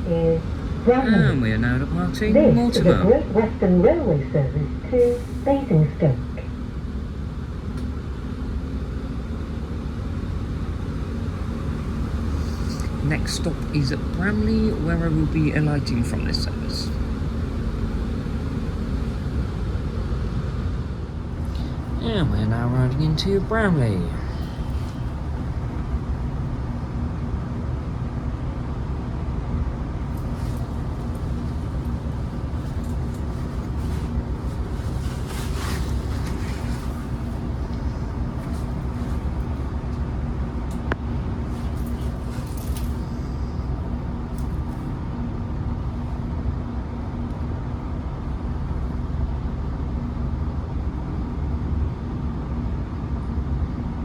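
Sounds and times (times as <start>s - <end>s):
diesel train engine drone: 0.0s - 54.0s.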